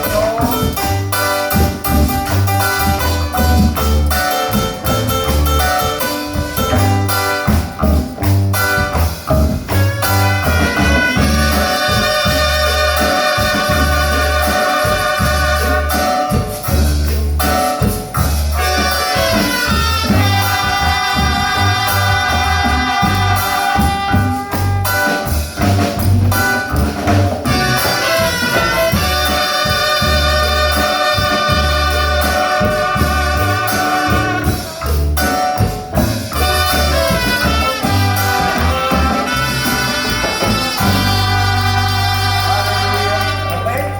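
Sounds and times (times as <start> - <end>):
brass melodic lines: 0.0 - 43.9
pulsing bass: 0.0 - 43.9.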